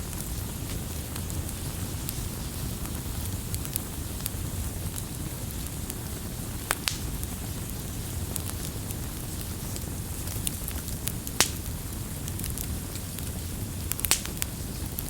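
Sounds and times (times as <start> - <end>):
campfire crackling and rumbling: 0.0 - 15.0.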